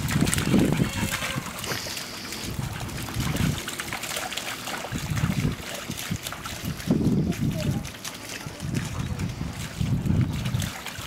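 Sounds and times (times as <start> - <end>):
wind on microphone: 0.0 - 4.0, 4.8 - 11.0
dogs splashing through puddle: 0.0 - 11.0.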